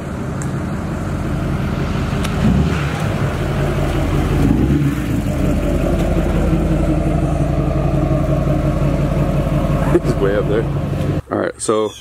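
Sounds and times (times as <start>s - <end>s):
diesel pickup engine running: 0.0s - 11.4s.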